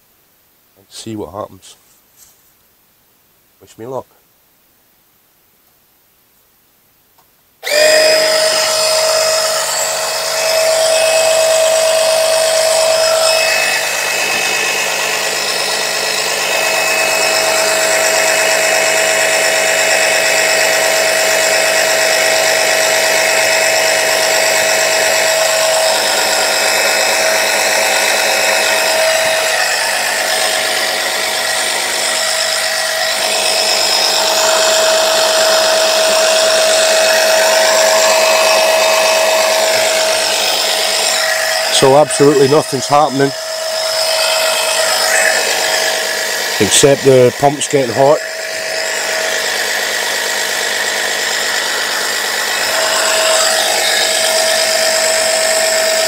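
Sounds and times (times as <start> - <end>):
electric pump whining: 7.6 - 56.0.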